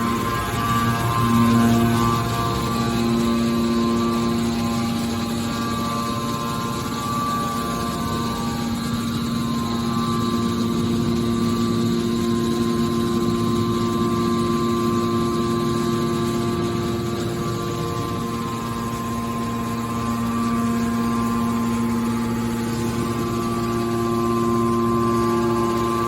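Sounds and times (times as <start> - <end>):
hydraulic baler motor humming: 0.0 - 26.0.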